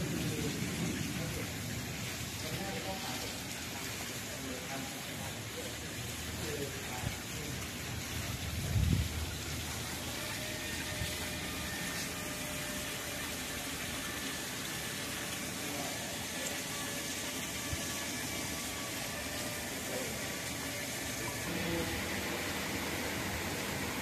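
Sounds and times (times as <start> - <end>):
water splashing into pool: 0.0 - 24.0.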